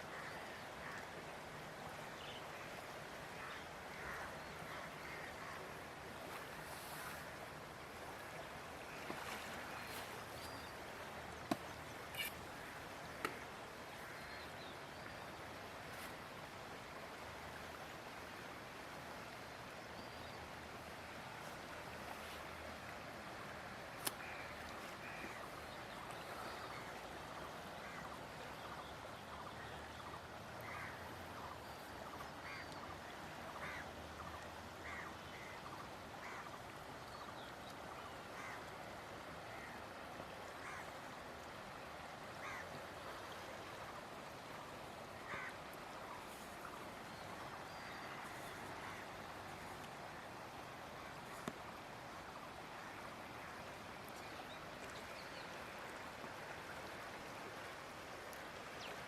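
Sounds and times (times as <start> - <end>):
rush of flowing floodwater: 0.0 - 59.0.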